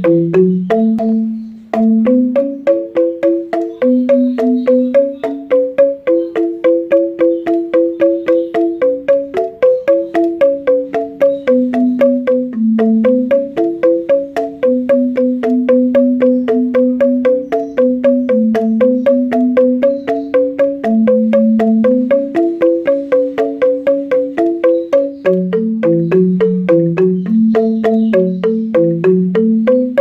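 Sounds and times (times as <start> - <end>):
mallet instrument melody: 0.0 - 30.0.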